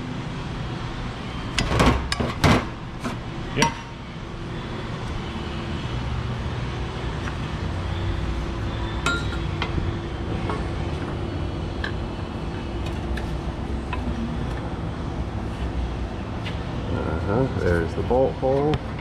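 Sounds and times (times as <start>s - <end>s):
low rumble and hum: 0.0s - 19.0s.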